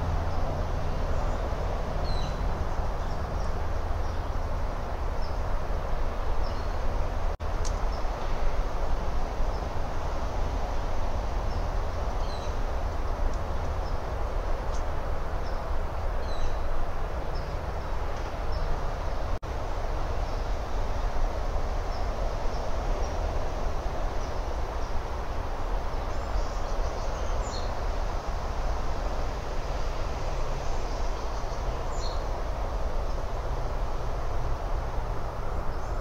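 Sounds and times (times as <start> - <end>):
outdoor rushing rumble: 0.0 - 36.0.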